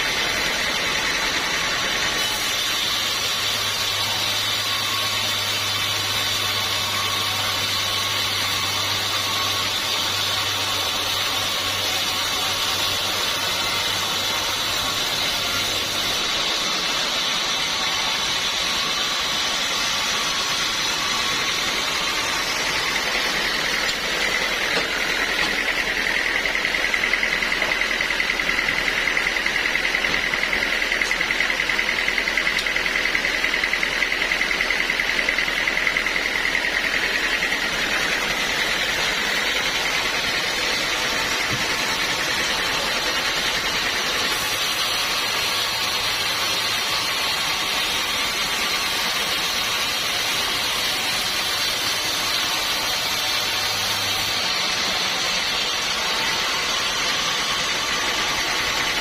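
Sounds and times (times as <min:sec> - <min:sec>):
high whine: 0:00.0 - 0:59.0
sawmill saw cutting wood: 0:00.0 - 0:59.0.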